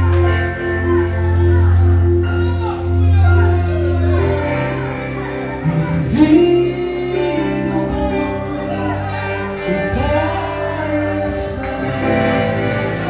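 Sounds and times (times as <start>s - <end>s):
person singing long sliding notes: 0.0s - 13.0s
string-like chords: 0.0s - 13.0s.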